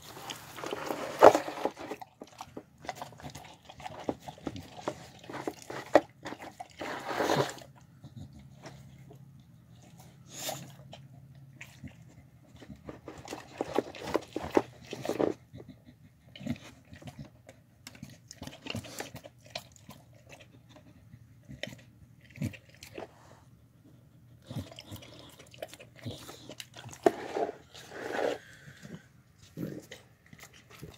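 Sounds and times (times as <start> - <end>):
dog chewing and licking: 0.1 - 30.9.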